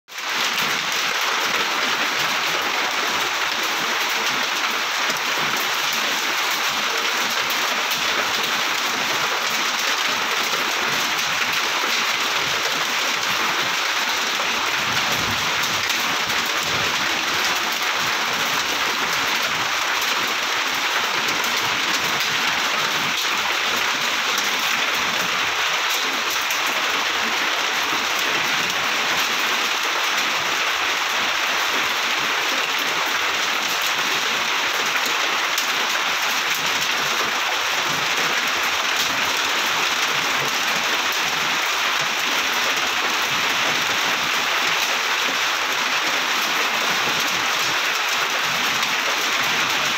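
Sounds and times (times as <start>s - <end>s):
rain on foliage: 0.1s - 49.9s.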